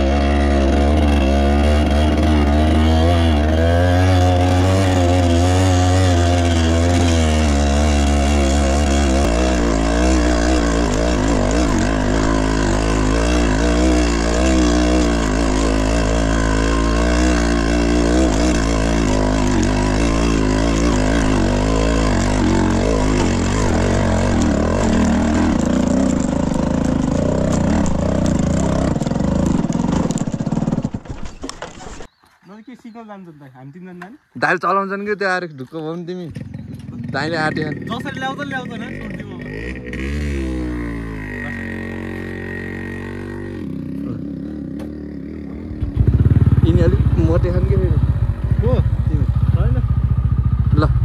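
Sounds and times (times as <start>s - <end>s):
motorcycle engine revving: 0.0s - 32.1s, 34.7s - 51.0s.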